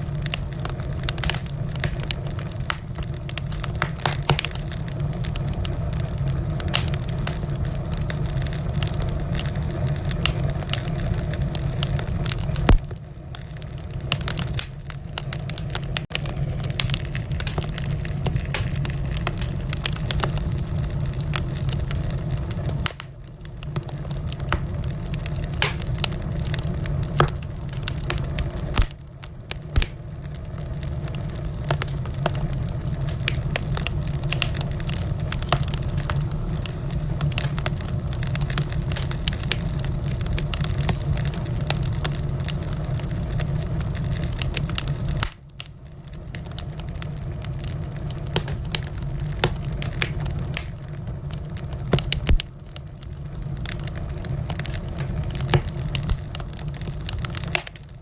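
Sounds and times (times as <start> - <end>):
fire popping and snapping: 0.0 - 58.0
low rumble of flames: 0.0 - 58.0.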